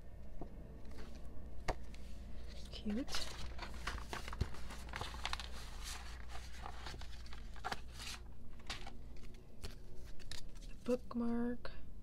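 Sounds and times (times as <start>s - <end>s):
paper rustling: 0.9s - 10.9s.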